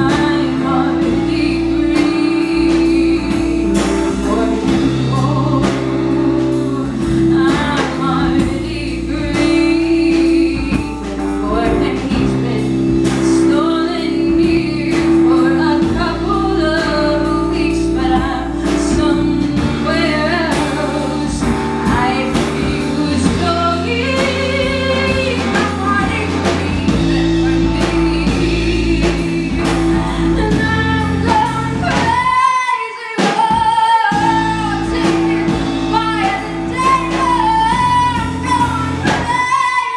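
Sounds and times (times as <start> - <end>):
live band playing: 0.0 - 39.9
woman singing lead: 0.0 - 39.9.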